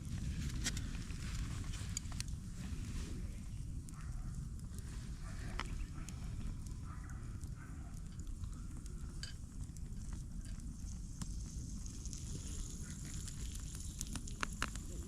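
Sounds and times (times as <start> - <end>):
fire crackling and popping: 0.0 - 15.0
steady low rumble: 0.0 - 15.0.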